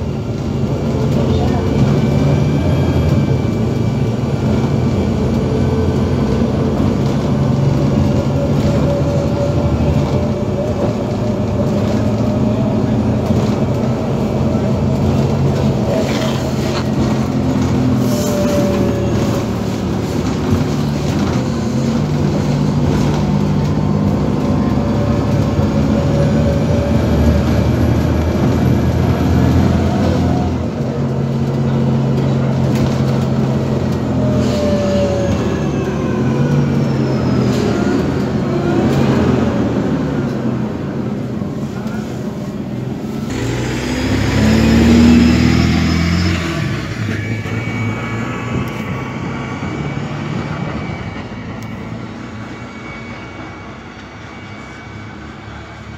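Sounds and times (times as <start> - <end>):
bus engine hum: 0.0 - 55.9
road rumble: 0.0 - 55.9.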